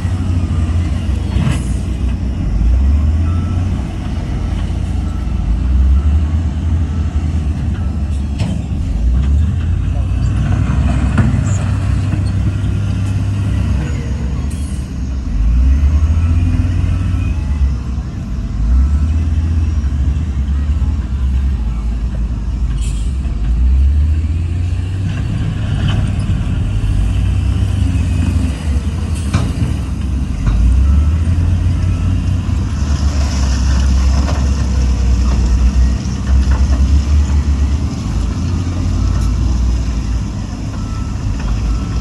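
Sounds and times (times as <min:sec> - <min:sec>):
diesel machinery rumbling: 0:00.0 - 0:42.0.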